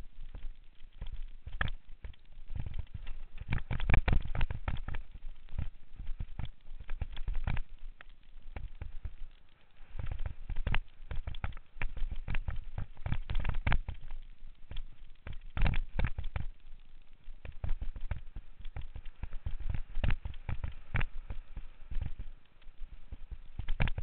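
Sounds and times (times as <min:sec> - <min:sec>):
action camera rattling: 0:00.2 - 0:24.0.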